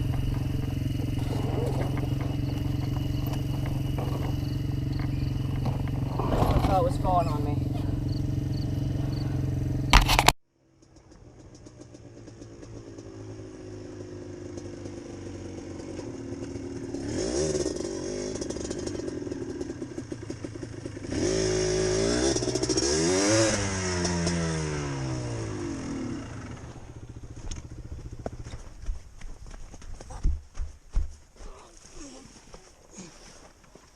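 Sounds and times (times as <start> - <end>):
atv engine revving: 0.0 - 28.8.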